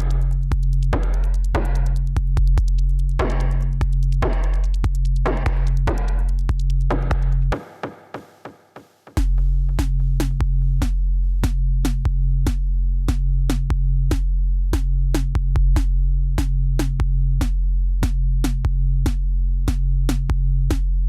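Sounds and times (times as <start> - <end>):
electronic music with bass and beat: 0.0 - 8.5, 9.2 - 21.0.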